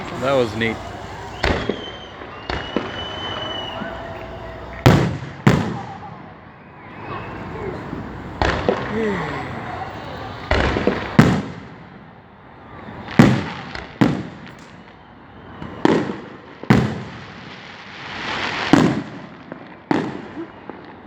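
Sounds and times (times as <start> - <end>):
rising hiss of firework: 0.0 - 11.8, 12.6 - 21.0
fireworks bursting: 0.0 - 21.0.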